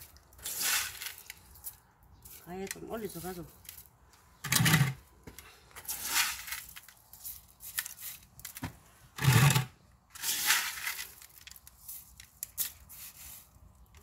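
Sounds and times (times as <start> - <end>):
grit crunching and rattling: 0.0 - 14.0.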